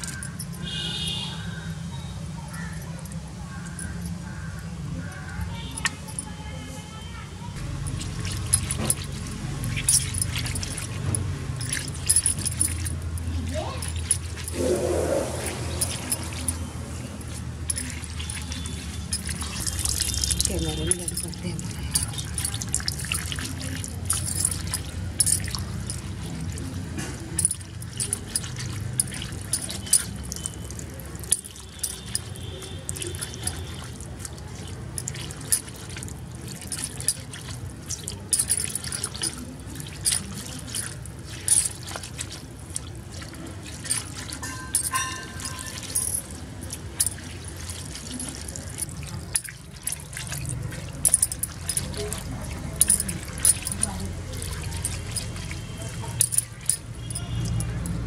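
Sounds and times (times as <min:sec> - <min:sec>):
water trickling: 0:00.0 - 0:06.8, 0:07.6 - 0:58.0
hand rubbing fish on wet concrete: 0:07.6 - 0:58.0.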